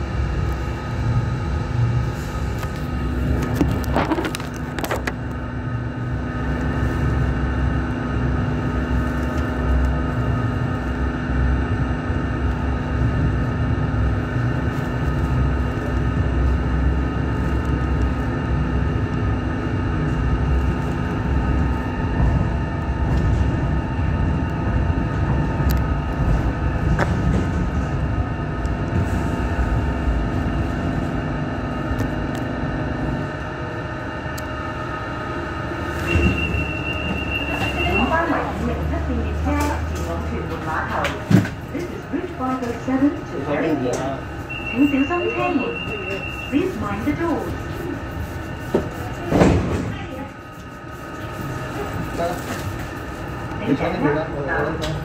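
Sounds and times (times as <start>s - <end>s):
equipment hums and whines: 0.0s - 55.0s
low rumble inside rail car: 0.0s - 55.0s.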